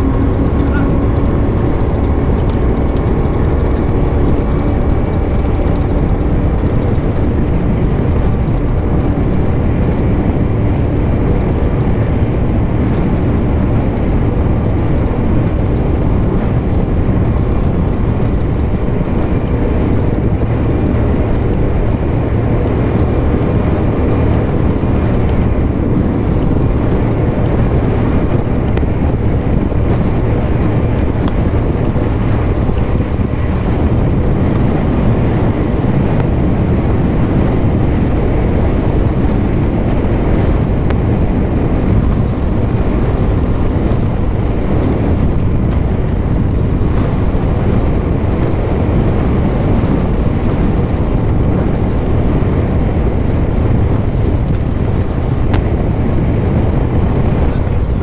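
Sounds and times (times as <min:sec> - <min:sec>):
powerboat engine drone: 0:00.0 - 0:58.0
wind: 0:00.0 - 0:58.0.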